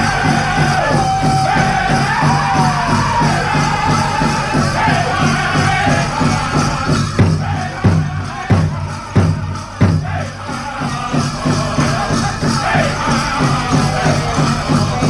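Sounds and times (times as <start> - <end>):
big drum struck in a steady beat: 0.0 - 15.0
group singing: 0.0 - 15.0.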